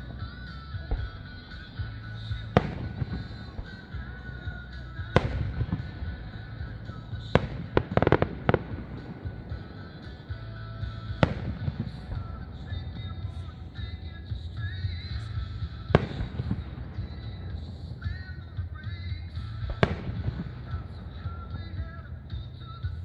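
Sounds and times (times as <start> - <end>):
fireworks bangs and crackling: 0.0 - 23.0
music: 0.0 - 23.0.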